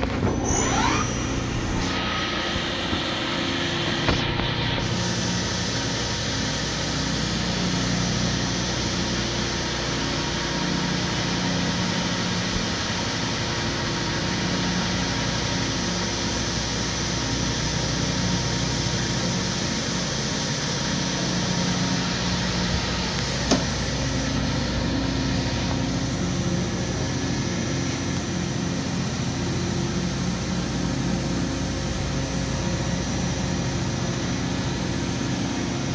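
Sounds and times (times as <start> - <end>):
machinery hum with wavering tones: 0.0 - 35.9.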